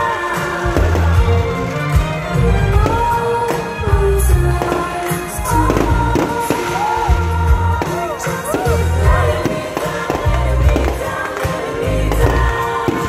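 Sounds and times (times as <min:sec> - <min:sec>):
firework bangs: 0:00.0 - 0:13.0
loud music with singing: 0:00.0 - 0:13.0.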